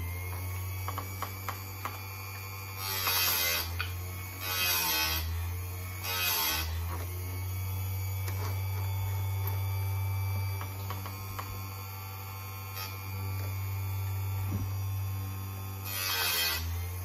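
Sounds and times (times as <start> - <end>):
chain sharpener motor humming: 0.0 - 17.0.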